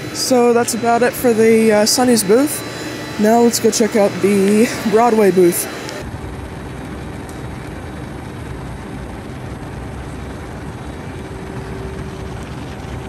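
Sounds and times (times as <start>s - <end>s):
faint motor hum: 0.0s - 13.0s.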